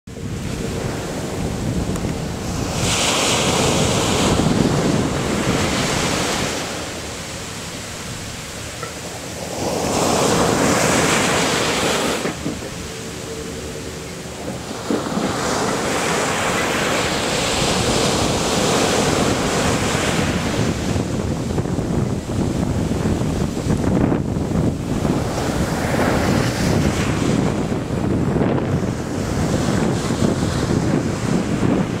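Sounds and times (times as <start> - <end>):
surf breaking on beach: 0.1 - 13.7, 14.3 - 32.0
wind rumbling on microphone: 0.1 - 32.0.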